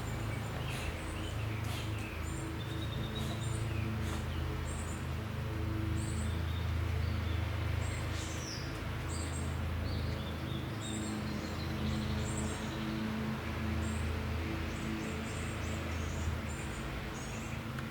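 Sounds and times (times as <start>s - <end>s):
small birds chirping: 0.0s - 5.0s, 6.0s - 13.1s, 13.8s - 17.9s
low steady drone: 0.0s - 17.9s.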